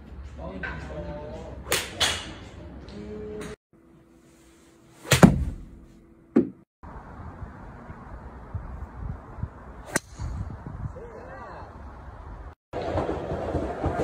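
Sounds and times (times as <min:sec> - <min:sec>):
outdoor noise: 0:00.0 - 0:14.0.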